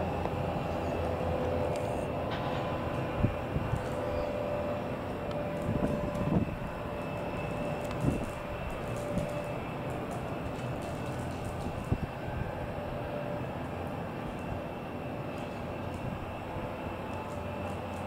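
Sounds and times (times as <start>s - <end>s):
jet engine rumble with whine: 0.0s - 18.0s.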